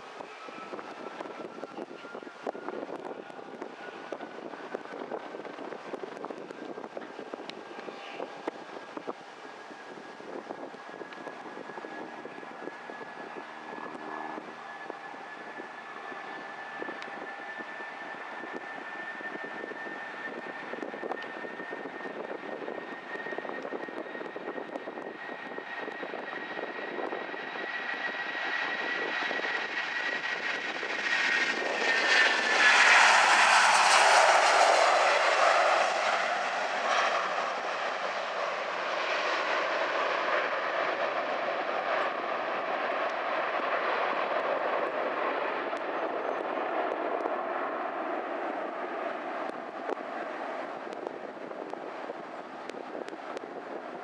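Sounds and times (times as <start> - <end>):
jet engines roaring at takeoff: 0.0 - 54.0.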